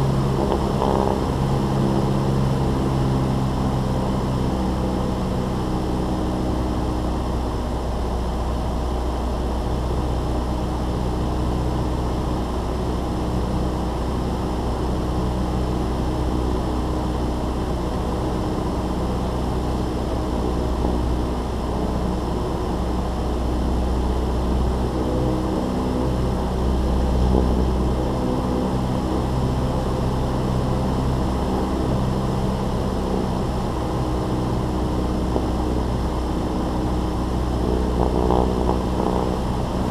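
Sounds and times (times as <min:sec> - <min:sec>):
aircraft engine and propeller: 0:00.0 - 0:39.9
wind rumble on microphone: 0:00.0 - 0:39.9.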